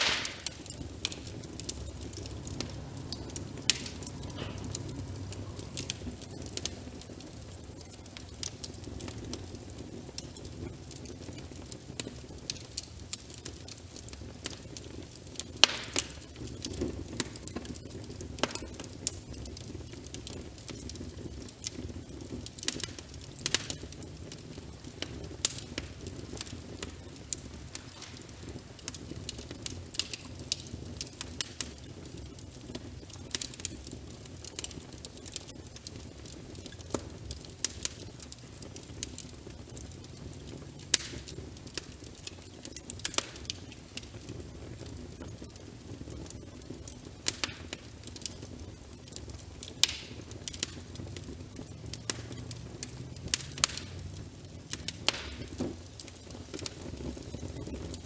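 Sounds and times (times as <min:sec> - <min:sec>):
rain patter: 0:00.0 - 0:58.0
wood fire crackling and popping: 0:00.0 - 0:58.0.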